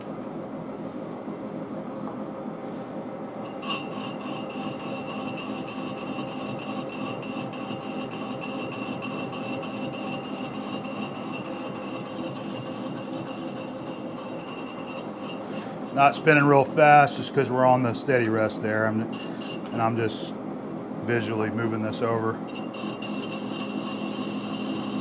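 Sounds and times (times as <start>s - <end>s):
steady high whine: 0.0s - 25.0s
lathe running: 3.3s - 25.0s.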